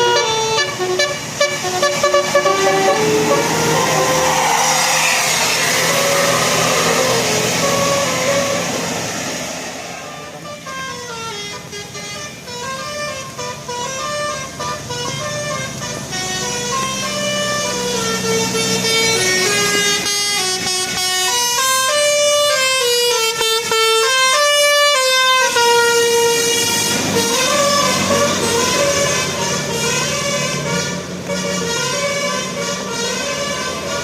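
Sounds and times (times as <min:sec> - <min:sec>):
bus musical horn melody: 0:00.0 - 0:34.0.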